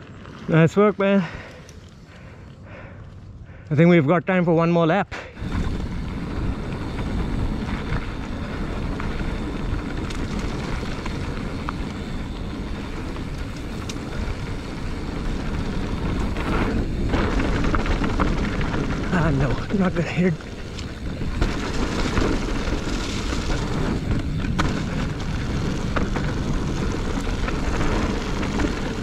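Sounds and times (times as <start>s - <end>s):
tyres rolling over dirt: 0.0s - 3.0s, 5.4s - 29.0s.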